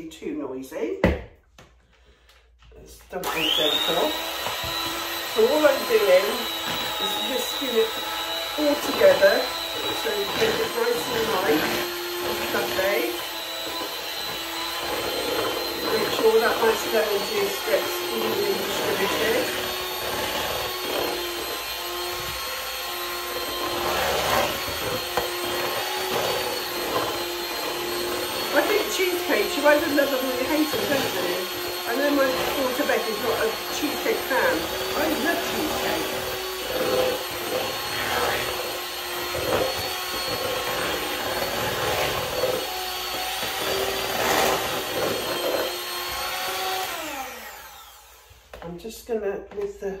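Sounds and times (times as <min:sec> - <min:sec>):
electric hand mixer whisking: 0:03.0 - 0:48.8.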